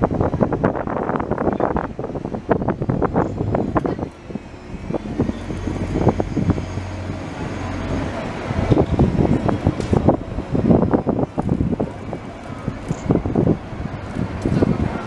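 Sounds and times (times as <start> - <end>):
bus engine droning: 0.0 - 15.0
buses passing: 0.0 - 15.0
wind buffeting microphone: 0.0 - 15.0.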